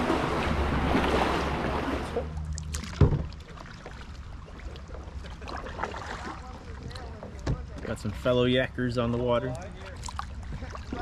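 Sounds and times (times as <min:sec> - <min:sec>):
paddle splashes and drips: 0:00.0 - 0:07.9, 0:09.8 - 0:11.0.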